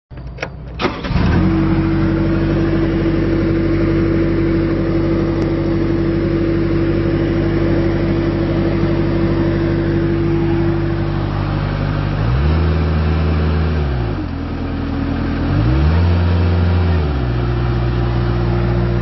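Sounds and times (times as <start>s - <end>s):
diesel engine starting and humming: 0.1s - 19.0s.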